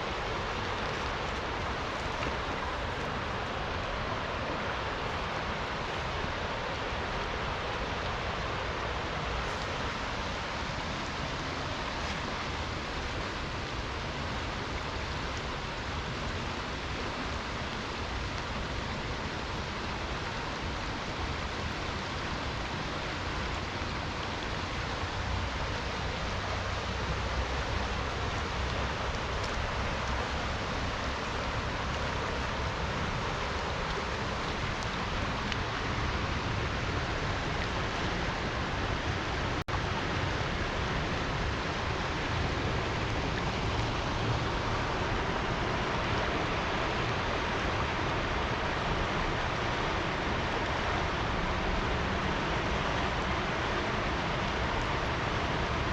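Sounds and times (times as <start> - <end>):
rain falling: 0.0 - 55.9
river water rushing: 0.0 - 55.9.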